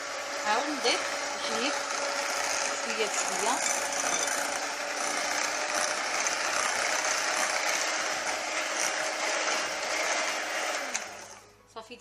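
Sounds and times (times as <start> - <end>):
electric hand mixer whisking batter: 0.0 - 11.6.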